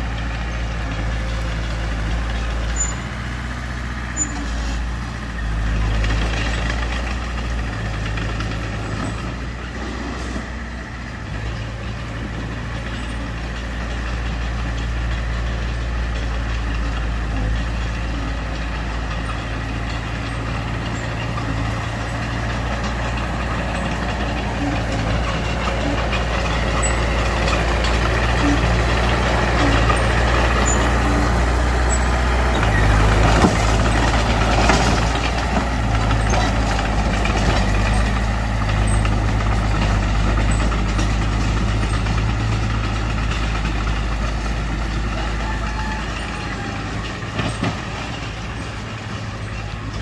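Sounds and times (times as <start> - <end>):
heavy diesel machinery working: 0.0 - 50.0.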